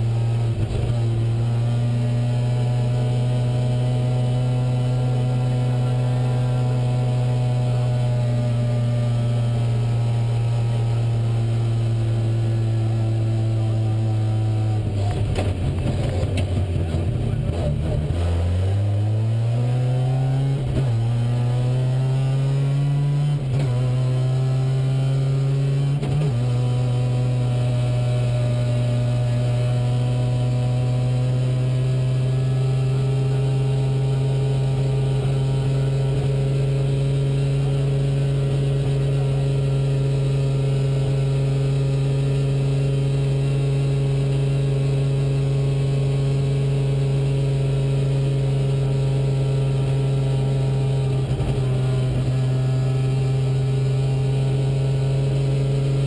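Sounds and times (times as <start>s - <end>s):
car engine at steady high speed: 0.0s - 56.0s.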